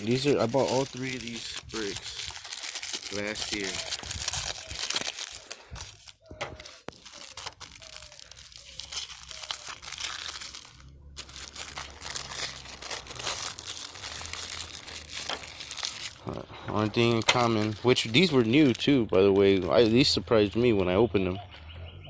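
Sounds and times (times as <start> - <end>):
paper wrappers crinkling: 0.0 - 20.2.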